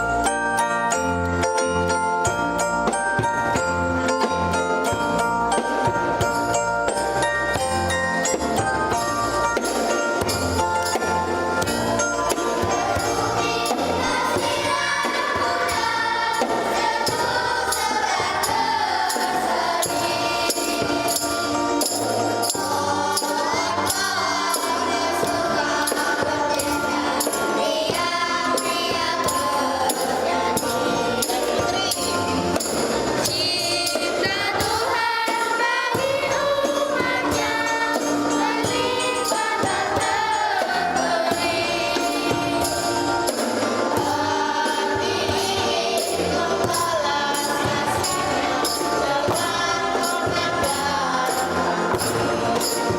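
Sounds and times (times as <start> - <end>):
bright high percussion strokes: 0.0 - 52.9
musical accompaniment: 0.0 - 52.9
choir singing a hymn: 2.9 - 52.9.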